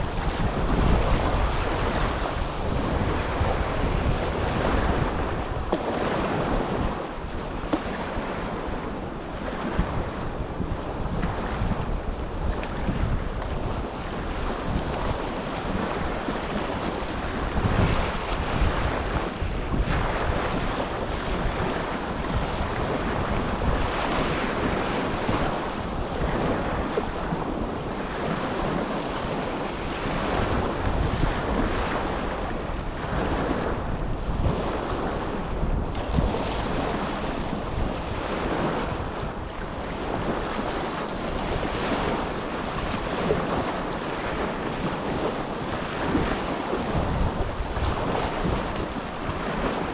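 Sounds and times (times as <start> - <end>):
small waves breaking on shore: 0.0 - 49.9
wind buffeting microphone: 0.0 - 49.9.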